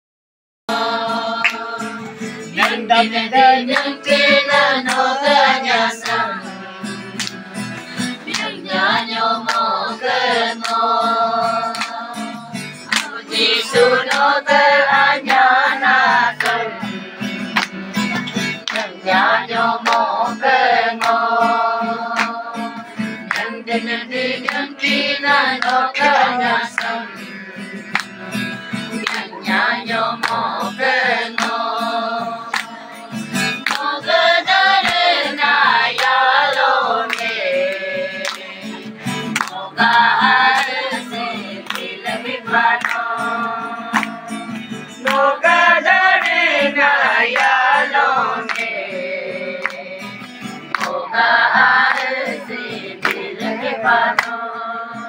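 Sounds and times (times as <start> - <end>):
group singing a hymn: 0.7 - 28.0, 28.9 - 55.0
hands clapping in time: 0.7 - 54.7.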